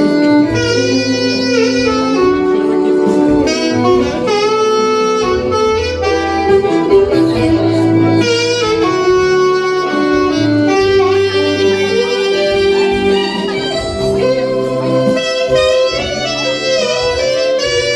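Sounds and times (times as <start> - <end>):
low bass line: 0.0 - 17.9
saxophone melody: 0.0 - 17.9.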